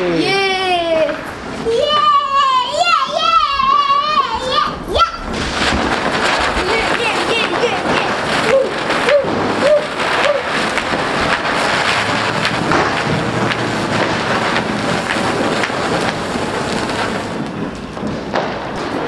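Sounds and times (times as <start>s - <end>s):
firework spraying sparks hissing: 0.0s - 19.0s.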